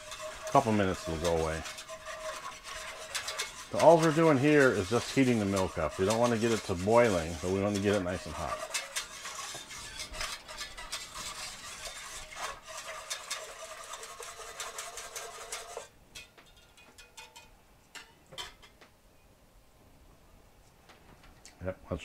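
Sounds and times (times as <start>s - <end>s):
wire whisk scraping a pot: 0.0s - 18.6s.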